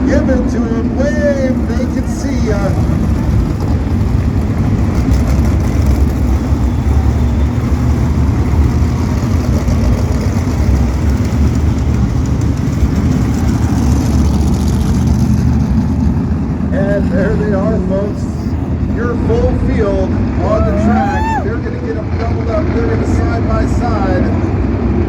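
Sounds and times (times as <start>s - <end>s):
race car engines roaring: 0.0s - 25.0s.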